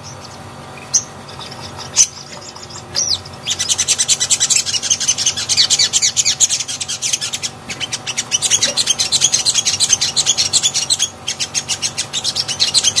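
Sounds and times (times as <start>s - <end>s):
bird chirping song: 0.0s - 13.0s.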